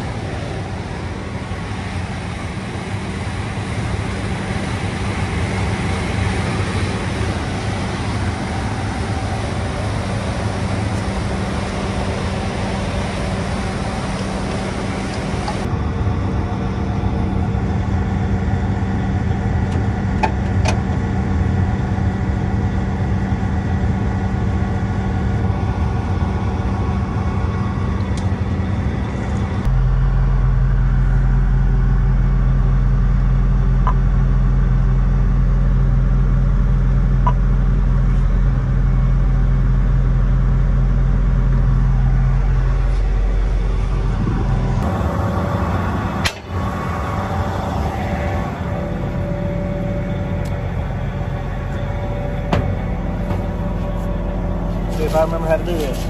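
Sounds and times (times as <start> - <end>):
diesel machine drone: 0.0 - 56.0.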